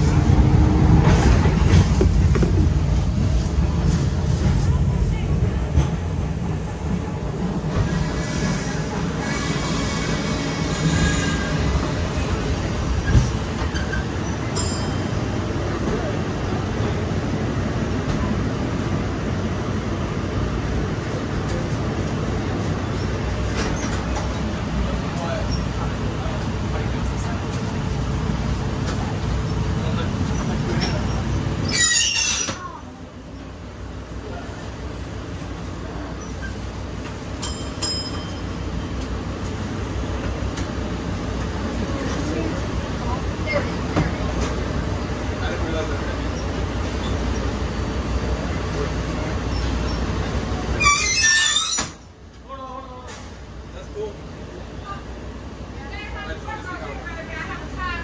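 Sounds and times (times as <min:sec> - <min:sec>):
streetcar interior rumble: 0:00.0 - 0:58.0.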